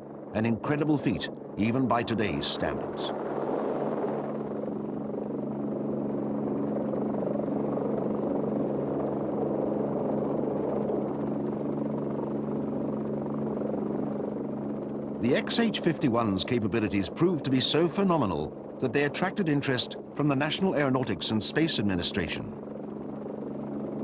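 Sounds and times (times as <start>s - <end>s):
helicopter engine and rotor hum: 0.0s - 24.0s.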